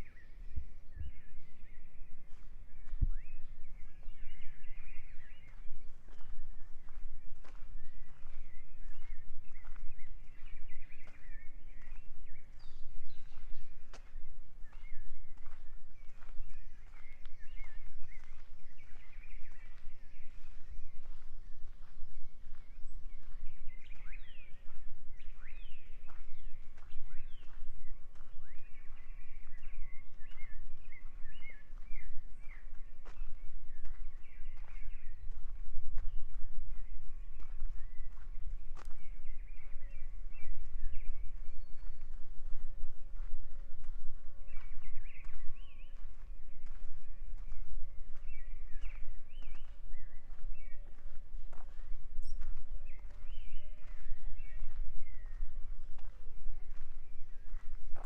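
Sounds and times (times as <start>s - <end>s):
footsteps on forest path: 0.0s - 58.0s
small birds chirping: 0.0s - 58.0s.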